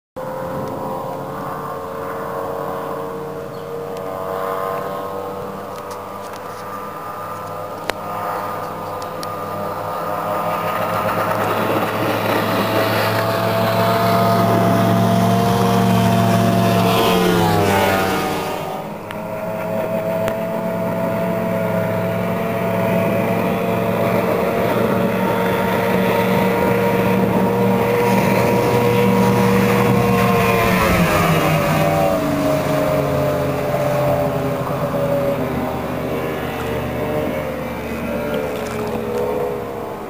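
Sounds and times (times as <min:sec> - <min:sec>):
speedboat engine passing by: 0:00.2 - 0:40.0.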